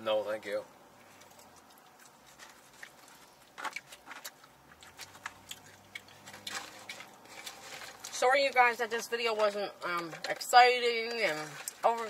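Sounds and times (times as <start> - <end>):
chewing food: 1.0 - 8.2, 9.4 - 12.0.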